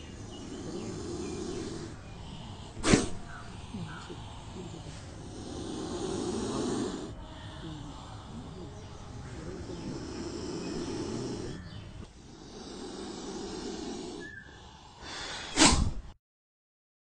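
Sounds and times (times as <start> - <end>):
cobra hissing: 0.0 - 16.1.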